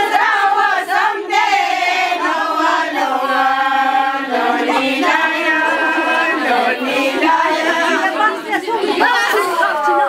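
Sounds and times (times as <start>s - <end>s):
women singing unaccompanied: 0.0s - 10.0s.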